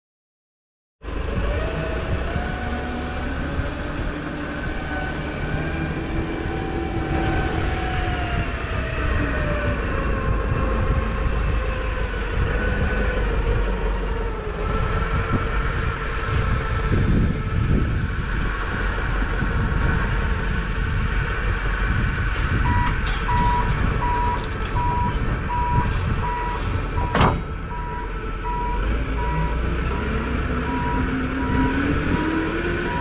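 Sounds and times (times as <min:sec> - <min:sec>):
diesel engine running: 0:01.0 - 0:33.0.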